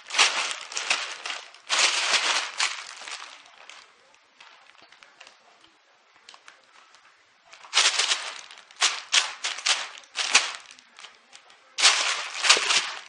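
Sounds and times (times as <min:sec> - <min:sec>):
plastic bag crinkling: 0:00.0 - 0:05.4, 0:06.3 - 0:13.0.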